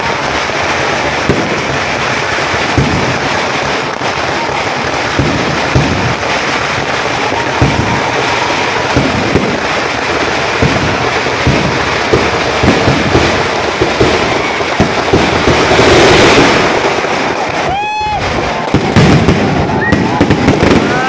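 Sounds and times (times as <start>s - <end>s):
firework shells bursting: 0.0s - 21.0s
fireworks crackling: 0.0s - 21.0s.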